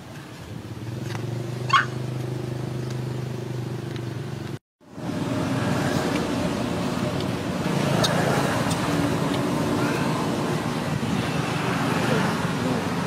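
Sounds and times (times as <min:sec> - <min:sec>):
engine running: 0:00.1 - 0:13.0.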